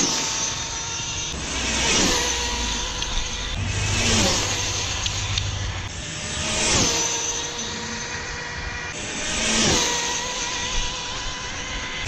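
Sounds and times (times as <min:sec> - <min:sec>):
rc car motor whine passing: 0:00.0 - 0:12.0.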